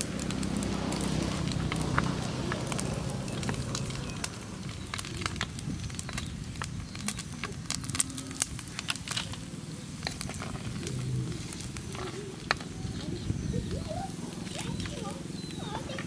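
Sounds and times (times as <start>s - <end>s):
light clicks and crackles: 0.0s - 16.0s.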